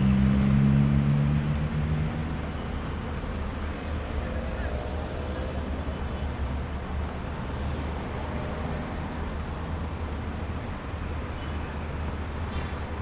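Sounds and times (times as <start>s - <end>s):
low rumble of engines: 0.0s - 13.0s
road noise: 0.0s - 13.0s.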